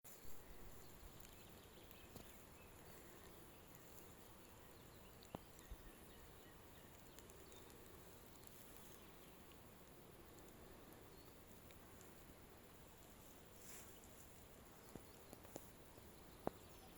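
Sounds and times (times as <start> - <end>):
faint outdoor hiss: 0.0 - 16.9.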